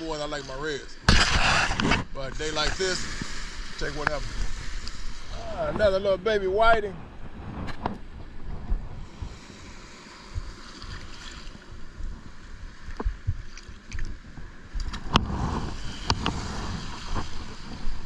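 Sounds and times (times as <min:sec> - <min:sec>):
surf washing in shallows: 0:00.0 - 0:18.0
wind rumbling on microphone: 0:00.0 - 0:18.0.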